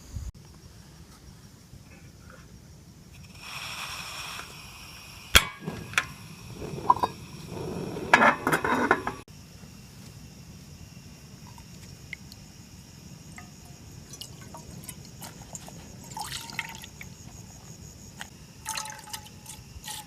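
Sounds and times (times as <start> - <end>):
insects trilling: 0.4 - 20.0.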